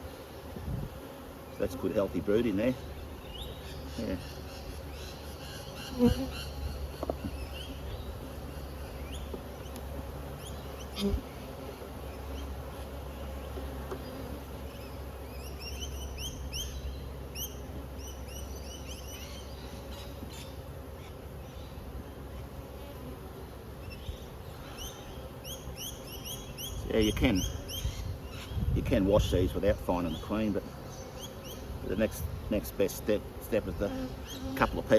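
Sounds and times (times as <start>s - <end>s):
honeybees buzzing: 0.0s - 34.9s.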